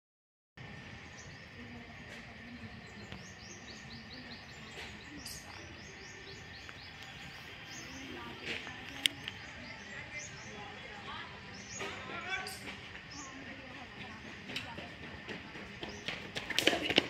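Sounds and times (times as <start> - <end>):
outdoor background noise: 0.6 - 17.0.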